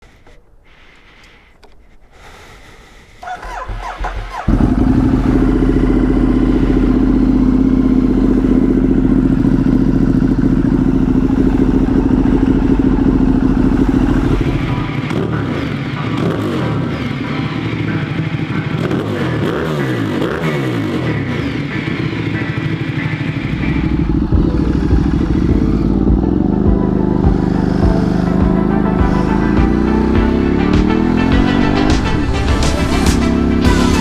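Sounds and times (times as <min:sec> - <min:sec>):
motorcycle engine starting and idling: 0:03.2 - 0:34.0.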